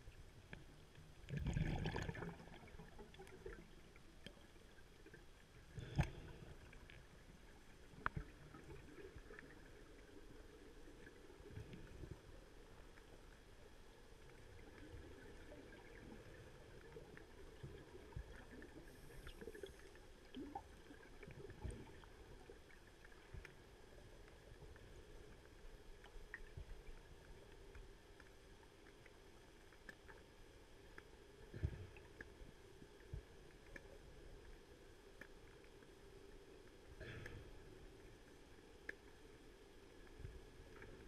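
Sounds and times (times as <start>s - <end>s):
faint underwater hum: 0.0s - 41.0s.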